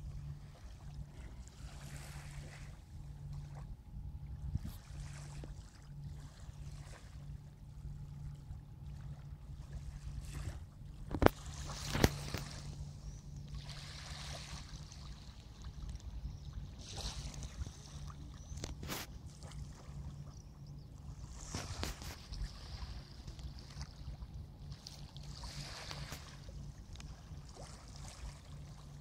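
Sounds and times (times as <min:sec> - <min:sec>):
low pulsing hum: 0:00.0 - 0:29.0
river water: 0:00.0 - 0:29.0.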